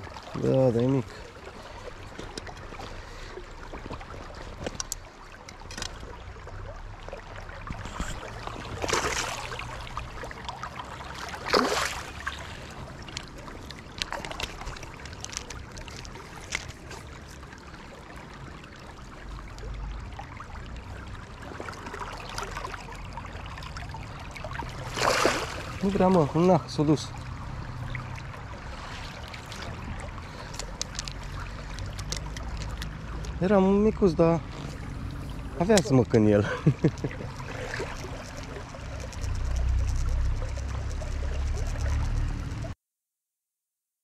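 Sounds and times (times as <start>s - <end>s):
river water running: 0.0s - 42.8s
water splashes: 0.0s - 42.8s.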